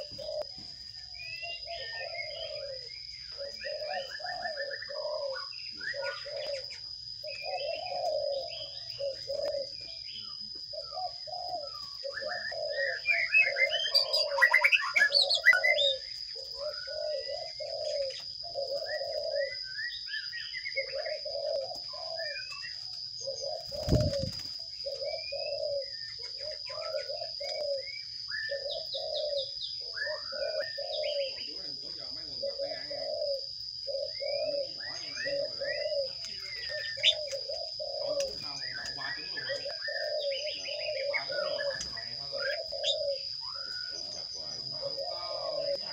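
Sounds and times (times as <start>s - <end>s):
birds chirping: 0.0s - 45.9s
low repeated cooing calls: 0.0s - 45.9s.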